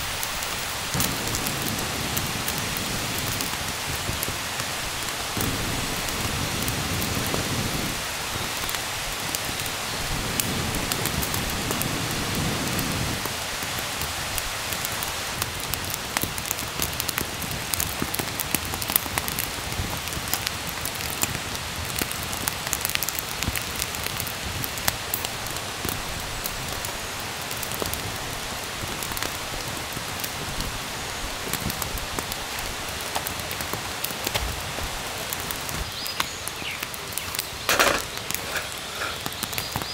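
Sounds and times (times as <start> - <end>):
rain drops ticking: 0.0 - 39.9
steady rain: 0.0 - 39.9.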